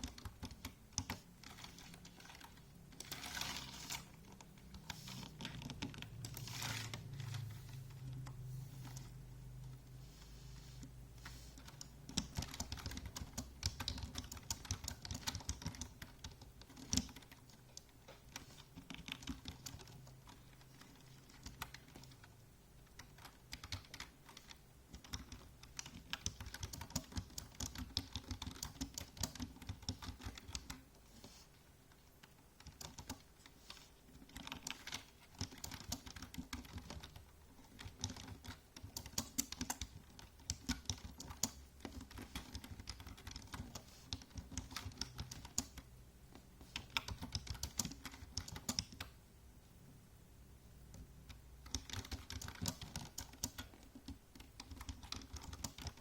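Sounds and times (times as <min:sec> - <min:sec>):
computer keyboard typing: 0:00.0 - 0:10.0, 0:11.6 - 0:31.0, 0:31.9 - 0:49.2, 0:50.9 - 0:56.0.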